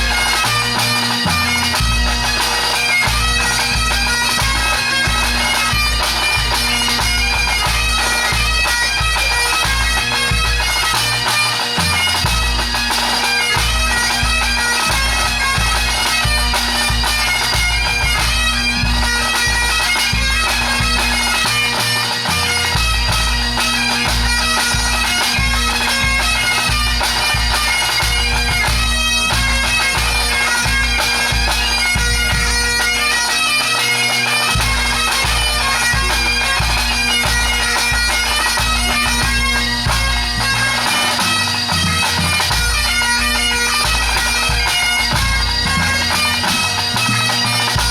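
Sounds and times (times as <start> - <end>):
bagpipes drone and melody: 0.0 - 47.9.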